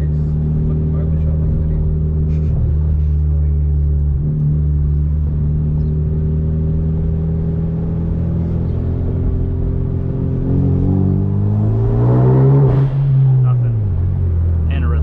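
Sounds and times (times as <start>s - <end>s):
car engine heard from cabin: 0.0s - 15.0s.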